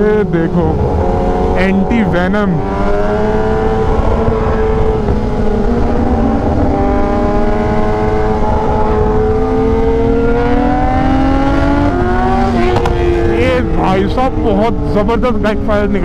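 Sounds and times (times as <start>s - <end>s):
motorcycle engine cruising: 0.0s - 16.0s
wind rush on microphone: 0.0s - 16.0s.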